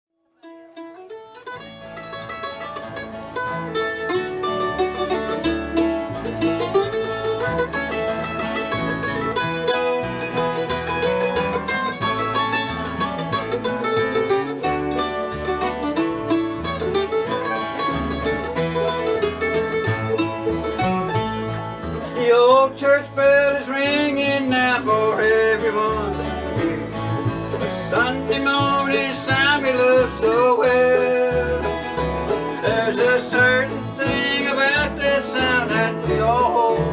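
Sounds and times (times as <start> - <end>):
acoustic bluegrass band playing: 0.2 - 36.9.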